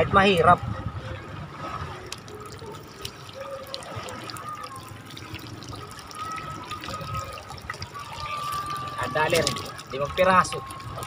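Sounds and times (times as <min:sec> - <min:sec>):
water lapping against boat hull: 0:01.2 - 0:11.0.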